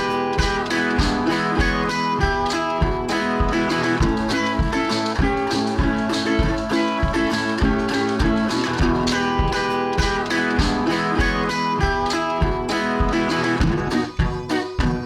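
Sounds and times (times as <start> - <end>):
country acoustic guitar music: 0.0 - 15.0.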